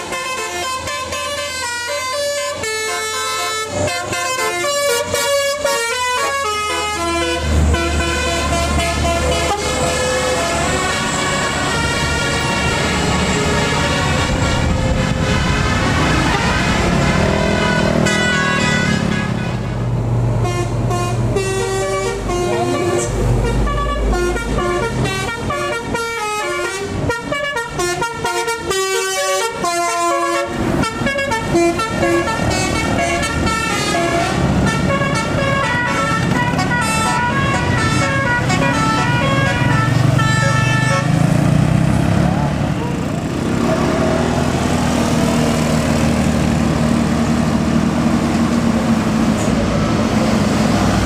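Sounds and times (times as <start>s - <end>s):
musical bus horn playing tune: 0.0s - 41.9s
bus engine running: 0.0s - 51.0s.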